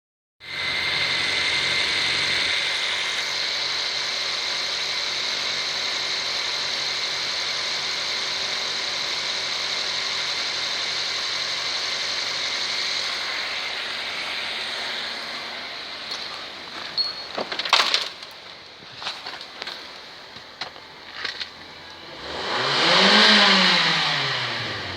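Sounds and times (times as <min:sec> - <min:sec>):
car engine idling: 0:00.4 - 0:24.9.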